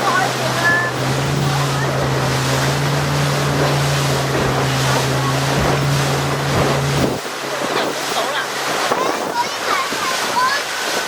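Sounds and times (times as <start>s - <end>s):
boat engine humming: 0.0s - 11.0s
water rushing: 0.0s - 11.0s
wind buffeting microphone: 0.0s - 11.0s.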